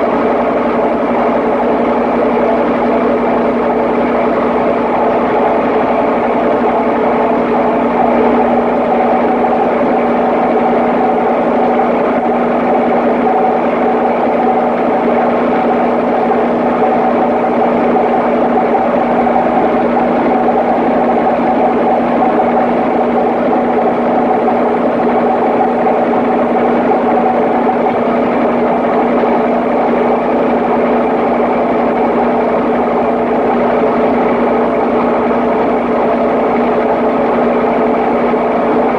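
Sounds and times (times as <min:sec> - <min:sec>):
engine running with steady hum: 0:00.0 - 0:38.9.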